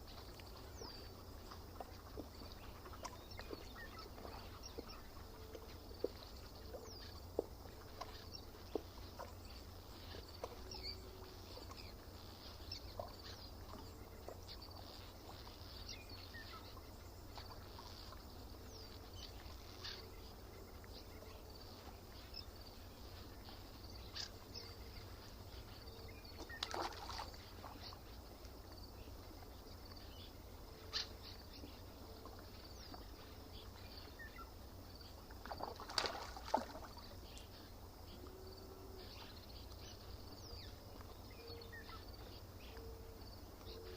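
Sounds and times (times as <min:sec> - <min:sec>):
bird calls and chirps: 0:00.0 - 0:43.9.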